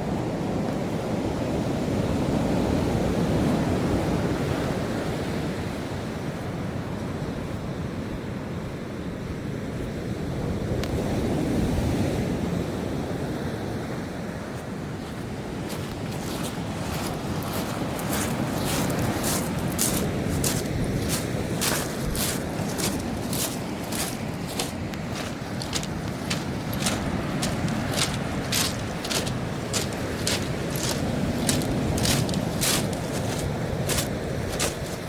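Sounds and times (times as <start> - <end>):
ocean surf washing on shore: 0.0 - 35.0.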